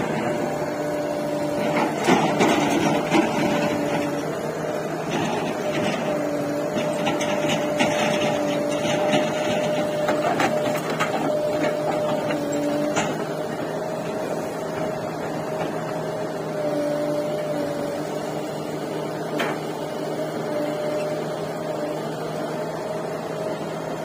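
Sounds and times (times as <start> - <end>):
constant whine: 0.0 - 24.0
diesel engines running: 0.0 - 24.0.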